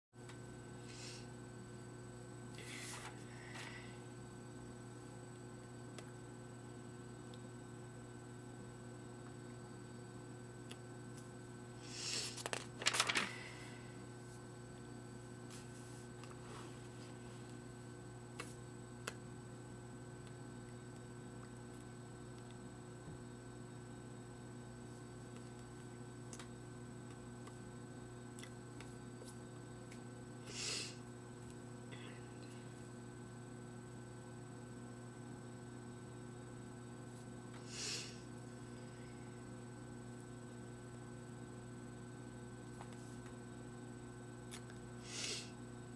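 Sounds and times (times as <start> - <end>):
steady electrical hum: 0.2 - 45.9.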